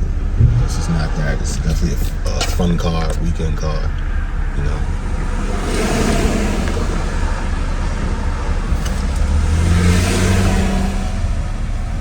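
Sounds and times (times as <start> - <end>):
car engine hum: 0.0 - 12.0
road noise inside car: 0.0 - 12.0.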